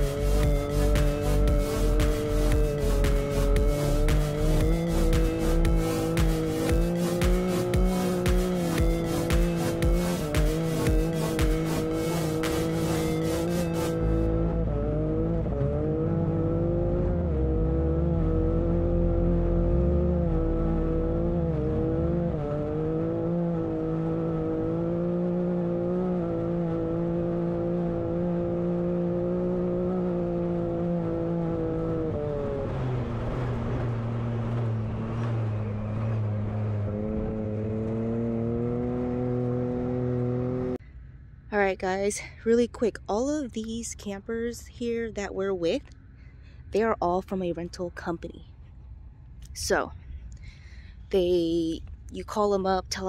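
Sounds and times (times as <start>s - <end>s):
engine running at speed: 0.0s - 53.0s.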